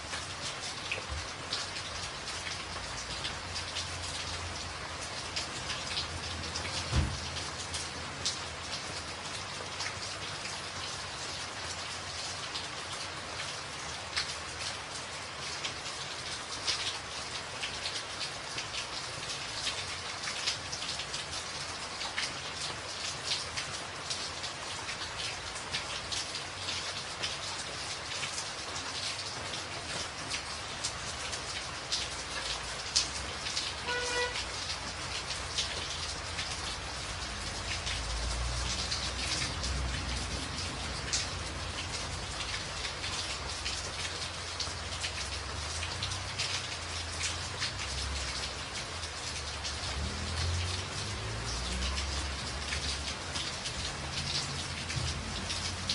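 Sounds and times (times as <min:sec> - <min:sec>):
rain drumming on a tin roof: 0:00.0 - 0:55.9.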